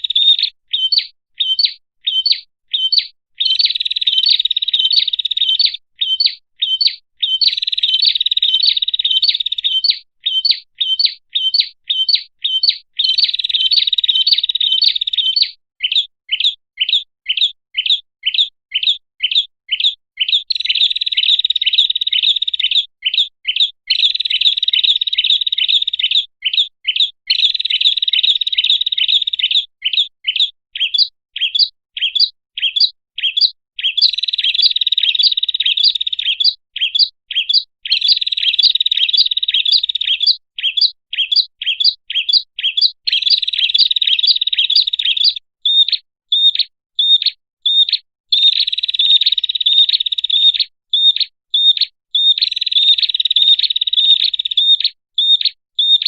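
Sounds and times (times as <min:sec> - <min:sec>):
bird sharp high chirps: 0:00.0 - 0:56.0.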